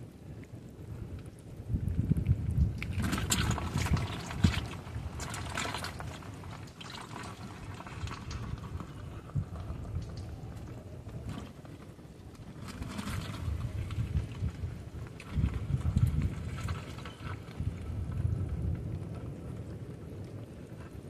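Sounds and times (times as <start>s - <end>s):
wet mud crackling and trickling: 0.0s - 21.0s
wind rumble on microphone: 0.0s - 21.0s.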